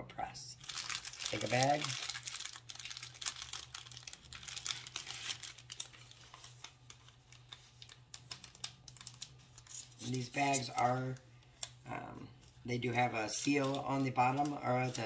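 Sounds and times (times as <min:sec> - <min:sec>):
plastic bag crinkling: 0:00.6 - 0:15.0.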